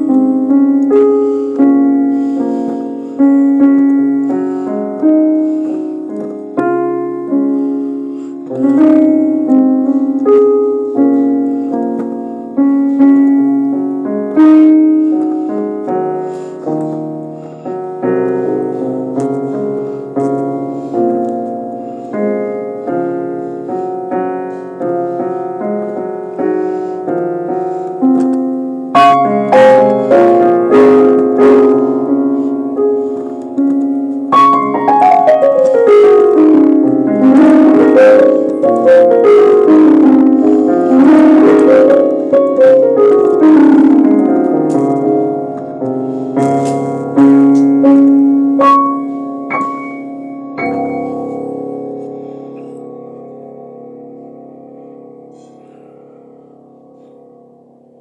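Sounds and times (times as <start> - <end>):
slow solo piano piece: 0.0 - 58.0.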